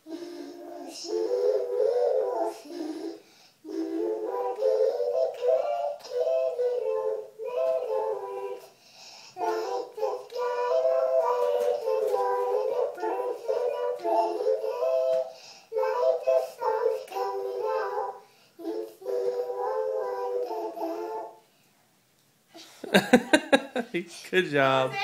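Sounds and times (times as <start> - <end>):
girl singing into toy microphone: 0.0 - 21.4.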